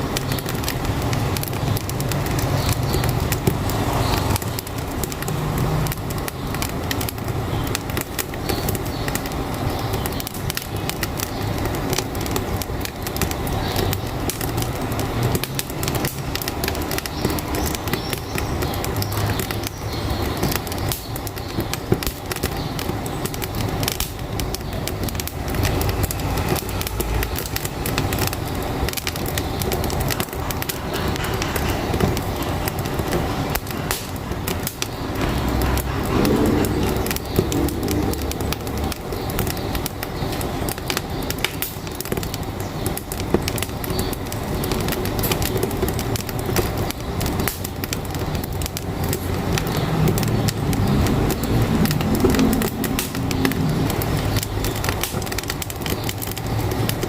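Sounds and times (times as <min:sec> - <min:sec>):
truck engine rumble: 0:00.0 - 0:57.0
wood fire crackling and popping: 0:00.0 - 0:57.0.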